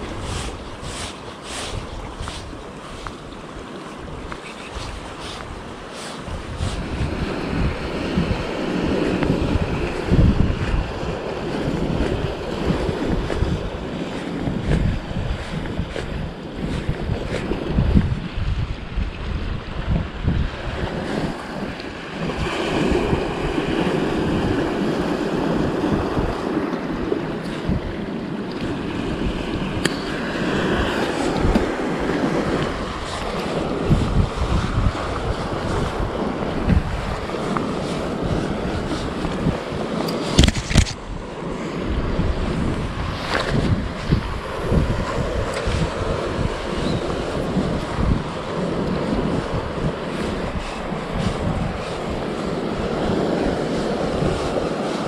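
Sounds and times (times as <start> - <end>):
waves washing against rocks: 0.0 - 55.0
wind buffeting microphone: 0.0 - 55.0.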